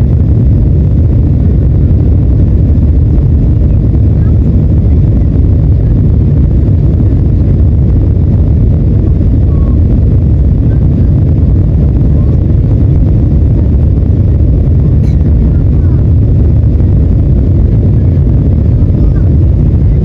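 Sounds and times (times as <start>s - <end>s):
jet engine cabin rumble: 0.0s - 20.0s.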